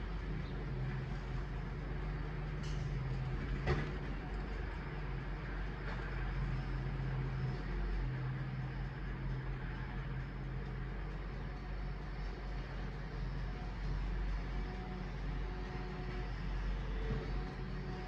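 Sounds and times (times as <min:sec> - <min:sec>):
garbage truck humming: 0:00.0 - 0:18.0.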